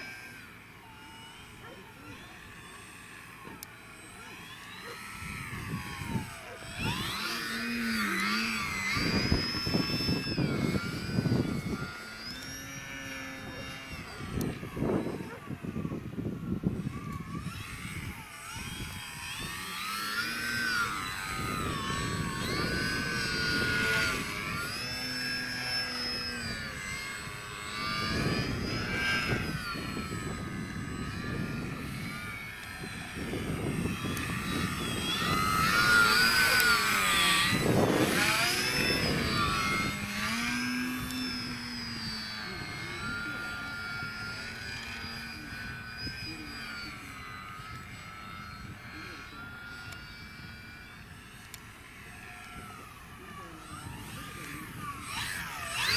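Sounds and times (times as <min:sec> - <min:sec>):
model airplane motor whine: 0:00.0 - 0:55.9.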